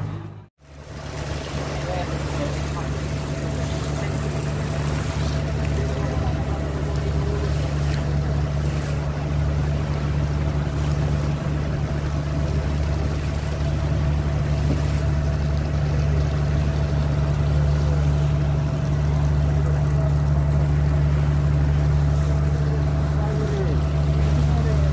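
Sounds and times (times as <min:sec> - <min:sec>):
boat engine drone: 0:00.0 - 0:24.9
water washing along hull: 0:00.0 - 0:24.9.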